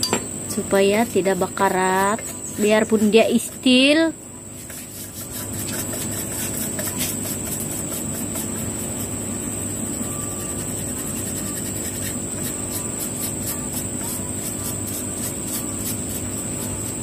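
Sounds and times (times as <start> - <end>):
high insect drone: 0.0 - 17.0
steady low hum: 0.0 - 17.0
brush scrubbing: 1.2 - 17.0.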